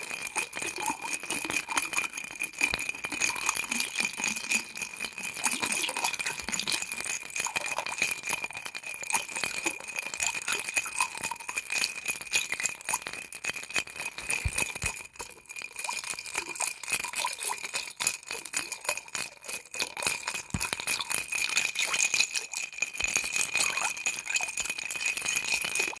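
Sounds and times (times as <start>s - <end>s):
ice cubes clinking in a glass: 0.0s - 26.0s.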